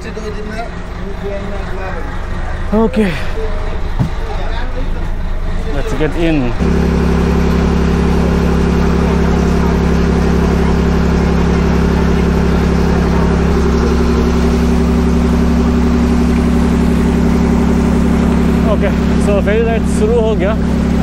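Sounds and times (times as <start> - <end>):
ferry engine droning: 0.0 - 21.0.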